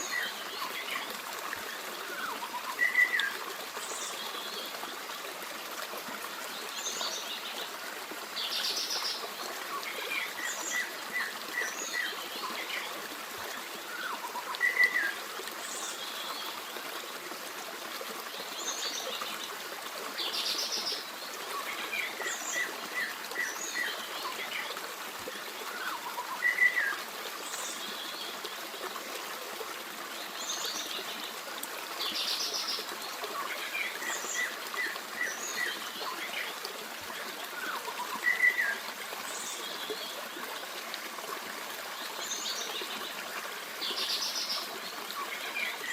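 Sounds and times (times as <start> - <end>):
forest stream babbling: 0.0 - 45.9.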